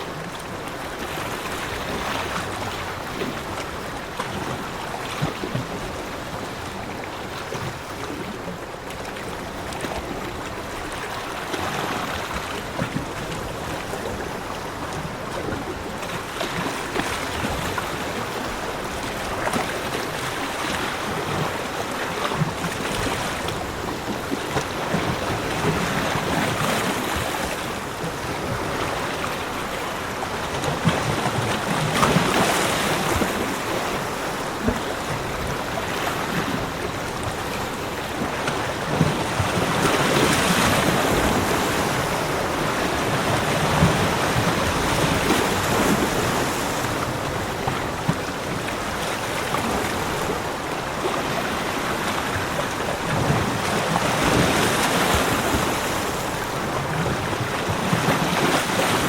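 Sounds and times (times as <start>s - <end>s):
sea waves washing onto beach: 0.0s - 59.0s.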